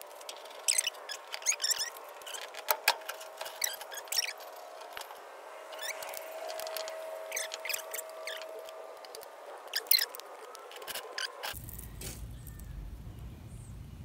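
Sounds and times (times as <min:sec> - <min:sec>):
metal squeaking: 0:00.2 - 0:11.6.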